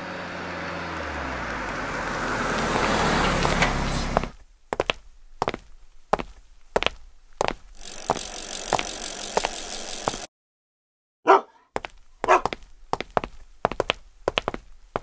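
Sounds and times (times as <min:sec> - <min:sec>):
light tapping footsteps: 0:01.0 - 0:10.3, 0:11.8 - 0:15.0.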